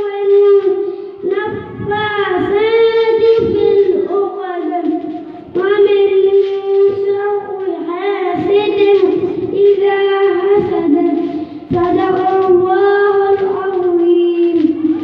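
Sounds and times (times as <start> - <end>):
boy chanting melodic recitation: 0.0 - 15.0.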